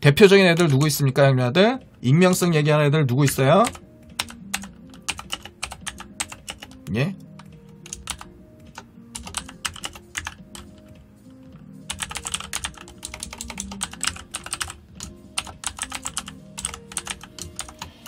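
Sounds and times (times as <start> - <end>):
faint background music: 0.0 - 18.0
computer keyboard typing: 0.4 - 1.1, 3.1 - 18.0.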